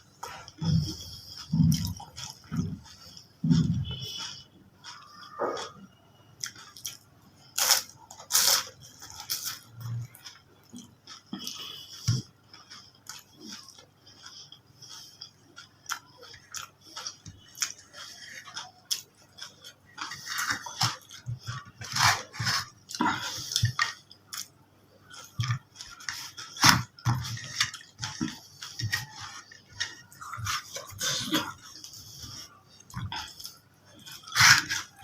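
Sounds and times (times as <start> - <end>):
chewing and crunching food: 0.0 - 35.0.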